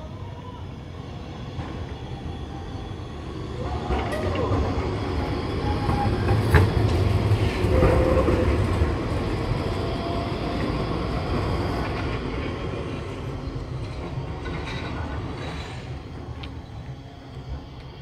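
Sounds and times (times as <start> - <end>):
tram wheel squeal: 0.0 - 18.0
tram wheels rumbling on rails: 0.0 - 18.0.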